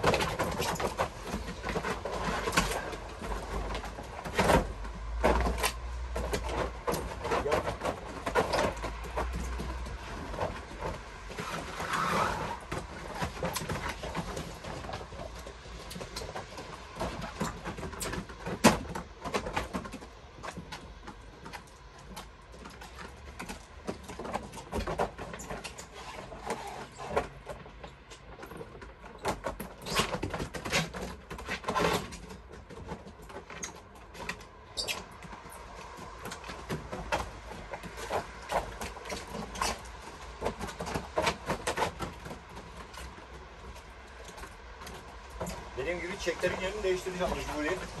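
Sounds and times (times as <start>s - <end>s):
clicks knocks and rustling: 0.0s - 48.0s.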